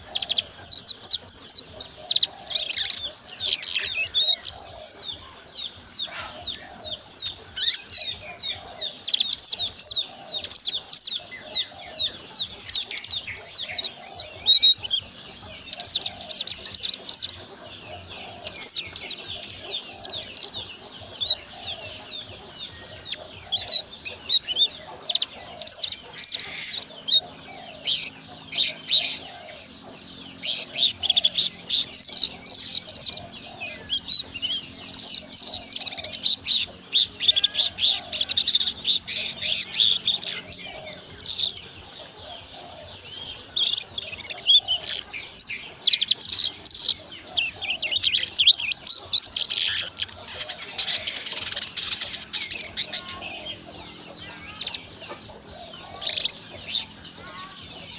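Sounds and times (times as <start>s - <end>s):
bird twittering chirps: 0.0s - 57.9s.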